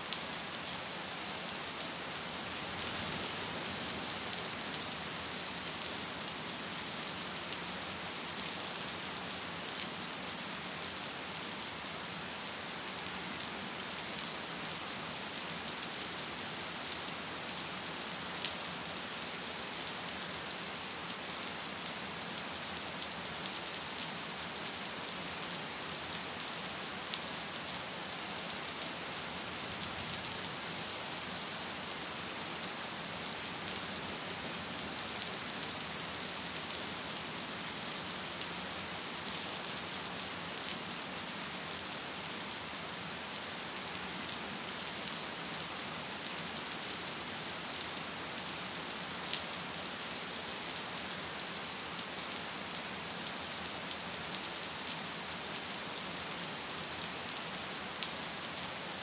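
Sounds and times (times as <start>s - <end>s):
gentle rain hiss: 0.0s - 59.0s.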